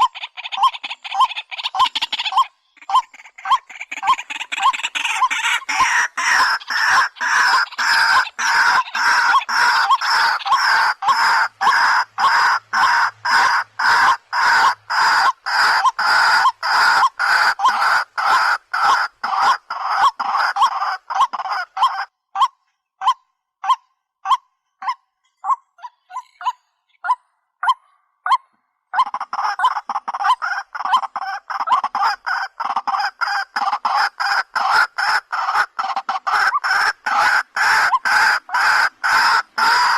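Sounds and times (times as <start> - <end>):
bird calling harsh notes: 0.0 - 39.9.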